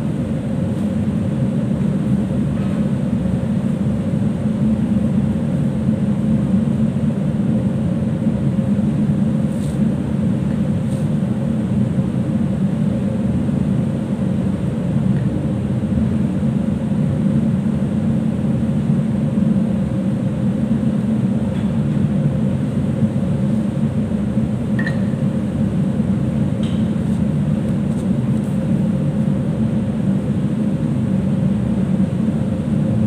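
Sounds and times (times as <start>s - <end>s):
ship machinery hum: 0.0s - 33.0s.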